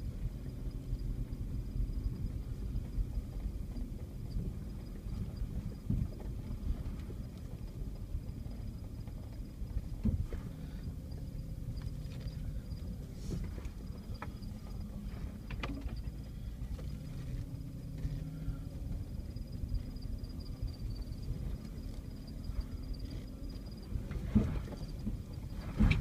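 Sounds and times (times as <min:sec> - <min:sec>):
vehicle engine running at low speed: 0:00.0 - 0:26.0
body knocks and rattles: 0:00.2 - 0:26.0.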